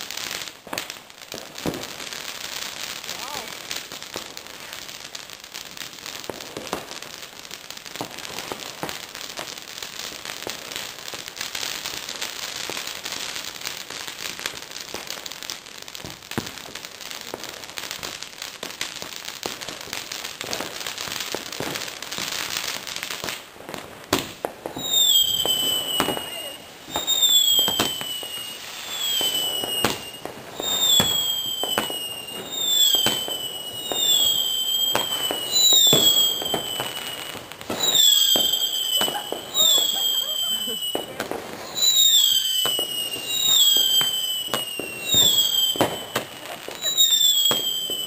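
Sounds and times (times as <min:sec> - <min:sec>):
firework fizzing and crackling: 0:00.0 - 0:48.0
whistling firework: 0:00.0 - 0:48.0.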